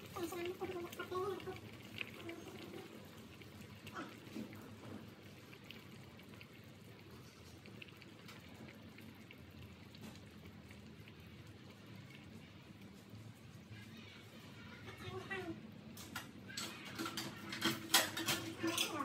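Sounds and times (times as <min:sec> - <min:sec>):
pot boiling with bubbling: 0:00.0 - 0:19.0.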